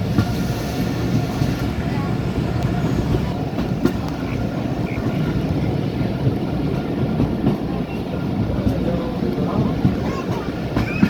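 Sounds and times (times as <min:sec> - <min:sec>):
moving train rumble: 0:00.0 - 0:11.0.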